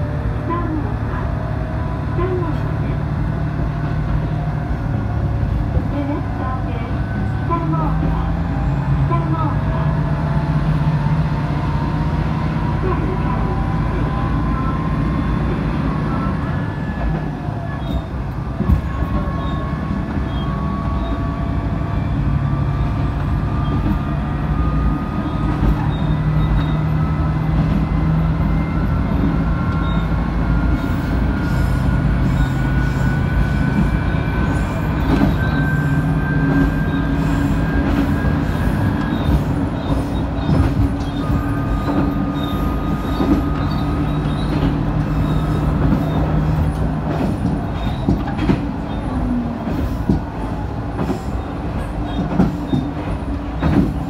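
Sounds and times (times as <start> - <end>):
railcar engine hum and whine: 0.0 - 54.0.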